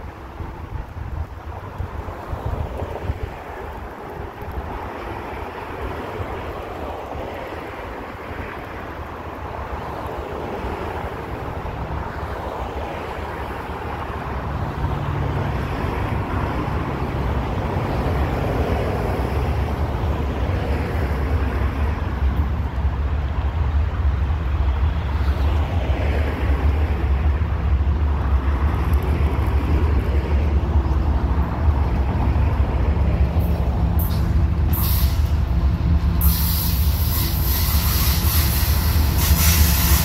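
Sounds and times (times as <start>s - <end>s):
approaching train rumbling: 0.0s - 40.0s
wind buffeting the microphone: 0.0s - 40.0s.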